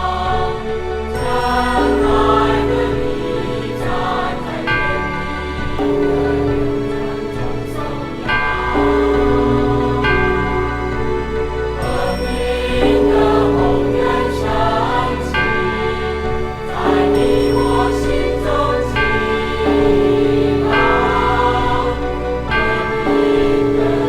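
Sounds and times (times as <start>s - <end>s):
choral singing: 0.0s - 24.0s
sustained instrumental chords: 0.0s - 24.0s.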